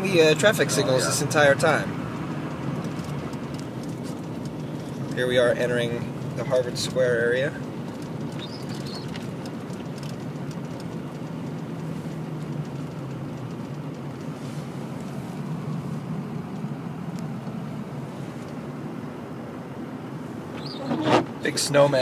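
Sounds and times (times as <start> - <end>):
low engine hum: 0.0 - 22.0
road and tyre noise: 0.0 - 22.0.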